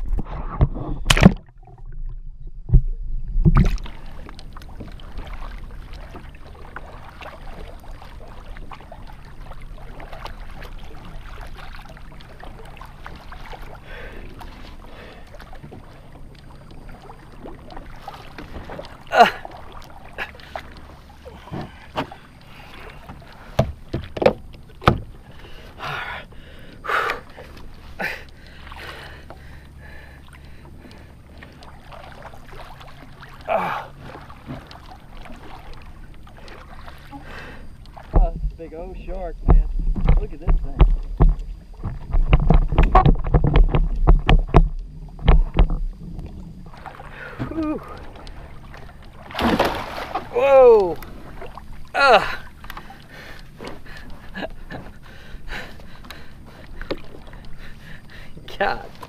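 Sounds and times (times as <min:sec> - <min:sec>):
water lapping against kayak hull: 0:00.0 - 0:59.0
water splashes: 0:00.0 - 0:59.0.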